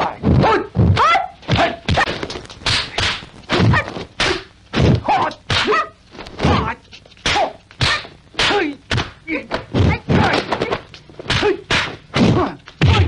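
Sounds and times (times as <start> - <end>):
fighters shouting: 0.0 - 2.2, 3.0 - 13.0
punch and kick impacts: 0.2 - 5.7, 7.3 - 13.0.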